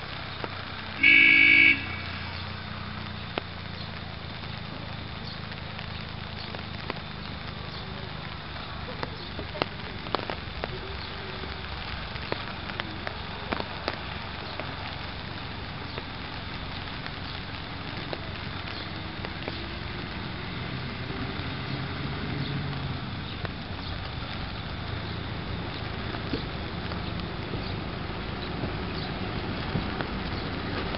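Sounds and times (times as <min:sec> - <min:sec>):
crackling raindrops: 0:00.0 - 0:30.9
rain hissing: 0:00.0 - 0:30.9.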